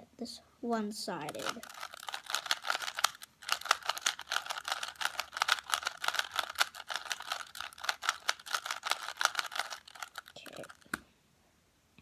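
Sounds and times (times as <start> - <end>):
puzzle cube layers clicking: 1.2 - 11.0.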